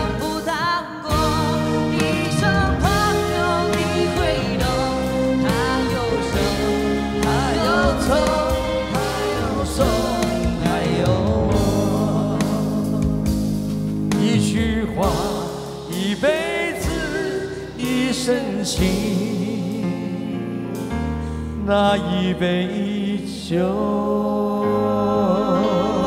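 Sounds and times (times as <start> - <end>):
live band music: 0.0 - 23.0.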